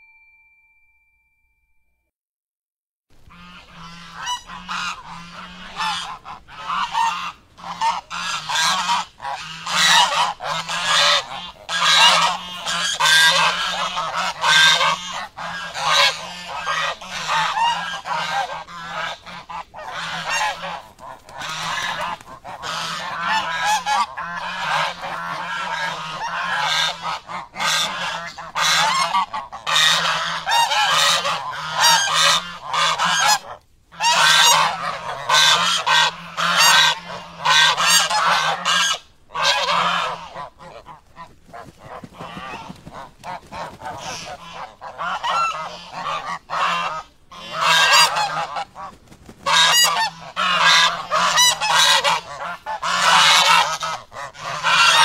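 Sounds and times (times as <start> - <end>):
birds honking harshly: 3.3 - 55.0.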